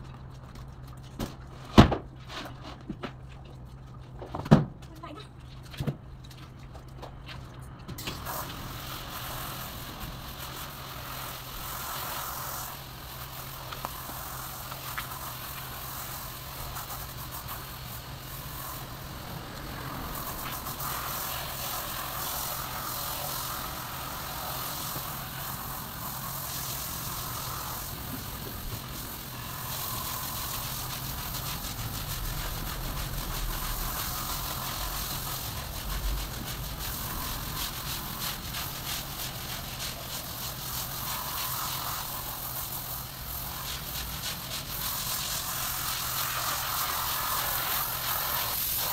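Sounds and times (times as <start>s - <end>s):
hose water splashing on floor: 6.2s - 48.9s.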